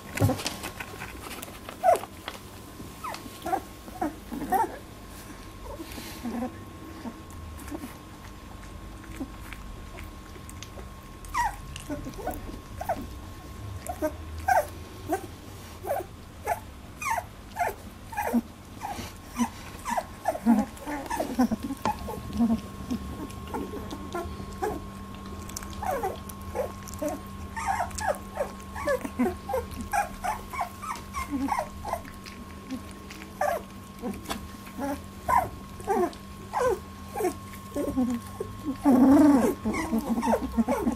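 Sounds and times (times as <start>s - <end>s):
puppies squeaking and whimpering: 1.8s - 2.1s, 3.0s - 8.2s, 11.2s - 40.9s.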